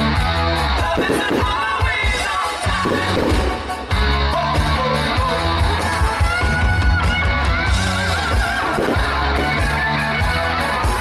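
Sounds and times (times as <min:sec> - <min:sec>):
sustained bass notes: 0:00.0 - 0:01.8, 0:02.6 - 0:11.0
guitar music: 0:00.0 - 0:11.0.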